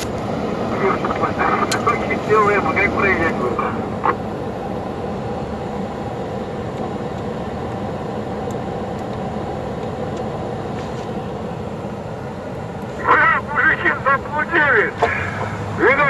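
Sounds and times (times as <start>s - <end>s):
helicopter running with rotor turning: 0.0s - 16.0s.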